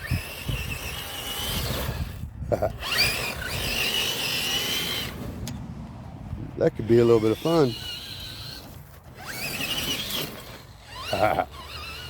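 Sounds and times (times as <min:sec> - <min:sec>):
toy truck electric motor whining: 0:00.0 - 0:05.5, 0:06.7 - 0:12.0.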